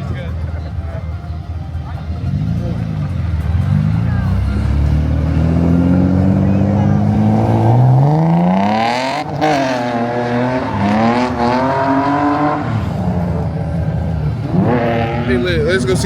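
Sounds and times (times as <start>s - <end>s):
car engine revving hard: 2.2s - 16.0s.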